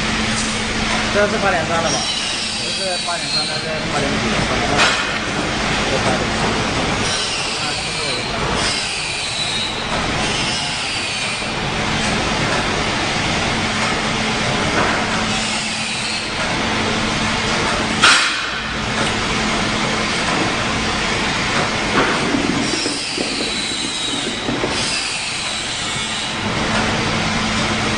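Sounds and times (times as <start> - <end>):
machinery din with low hum: 0.0 - 27.9.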